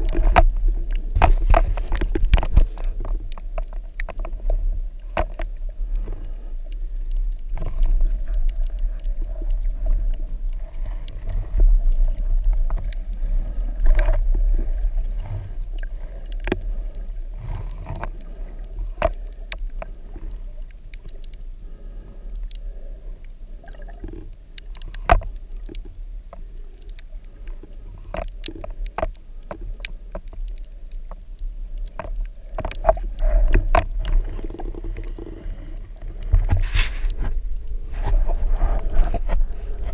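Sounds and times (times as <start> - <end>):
muffled underwater rumble: 0.0 - 39.9
sharp underwater clicks: 0.0 - 39.9.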